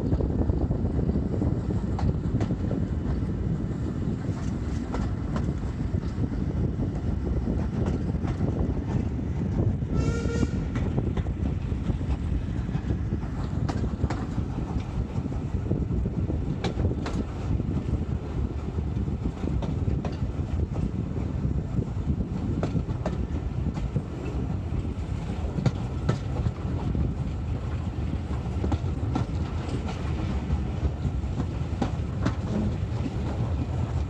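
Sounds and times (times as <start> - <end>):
steam train rumbling: 0.0 - 34.0.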